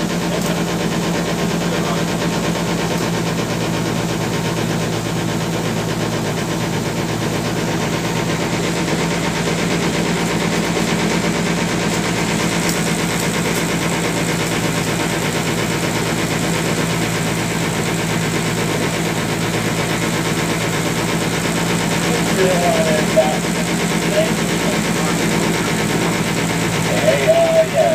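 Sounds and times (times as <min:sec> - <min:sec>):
ferry engine droning: 0:00.0 - 0:27.9.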